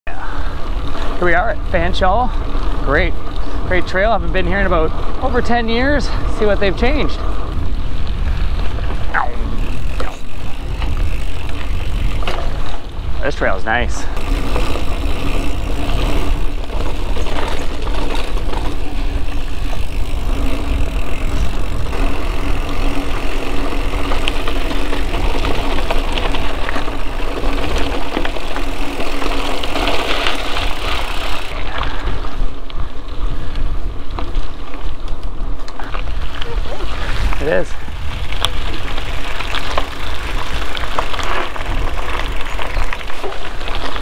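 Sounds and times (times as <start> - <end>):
bike tyre and drivetrain rattle: 0.1 - 44.0
wind rumble on microphone: 0.2 - 44.0.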